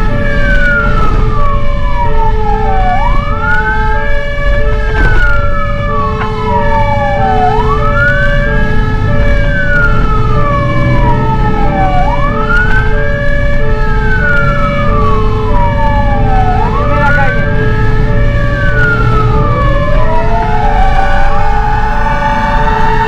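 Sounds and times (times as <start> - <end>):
truck engine rumbling: 0.0 - 23.0
two-tone hi-lo siren: 0.0 - 23.0
wailing siren: 0.0 - 23.0.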